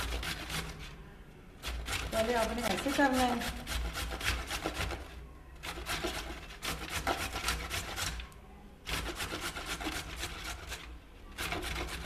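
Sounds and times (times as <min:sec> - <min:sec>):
carrot grated on metal grater: 0:00.0 - 0:00.9, 0:01.6 - 0:08.2, 0:08.9 - 0:12.0.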